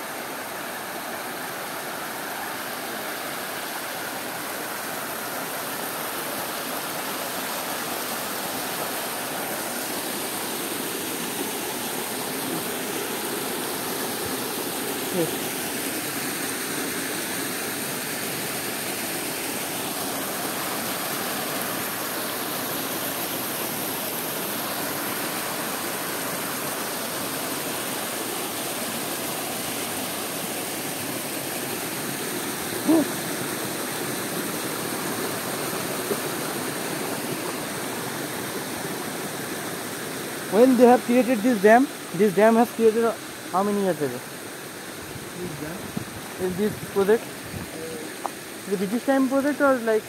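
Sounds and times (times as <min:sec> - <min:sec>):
stream water rushing over rocks: 0:00.0 - 0:50.0.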